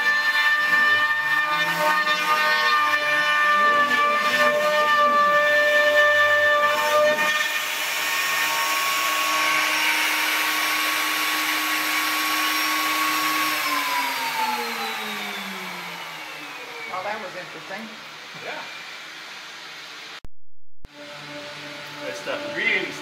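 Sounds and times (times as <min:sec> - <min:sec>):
router motor whining: 0:00.0 - 0:17.3, 0:18.2 - 0:20.1.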